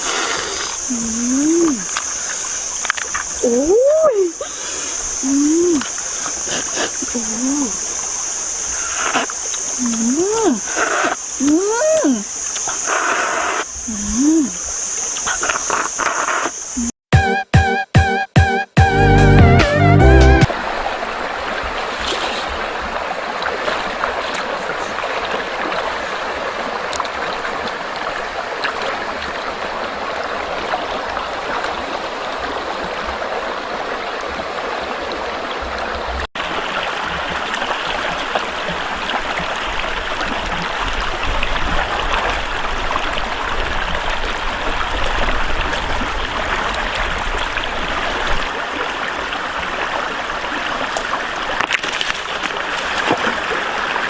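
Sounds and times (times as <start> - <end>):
stream water rushing: 0.0 - 16.8, 19.5 - 54.0.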